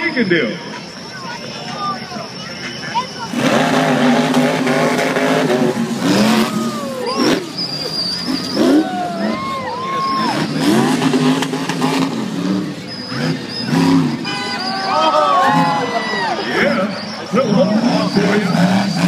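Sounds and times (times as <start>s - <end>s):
truck engine revving: 0.6s - 19.0s.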